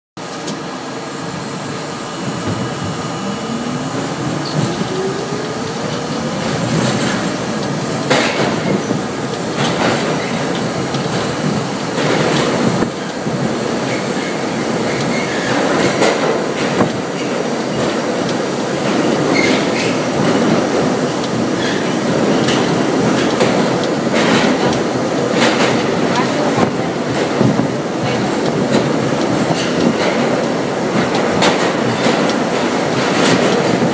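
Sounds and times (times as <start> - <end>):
subway train whine: 0.2 - 33.9
train rumble: 0.2 - 33.9
wheels clacking over rail joints: 4.0 - 33.9.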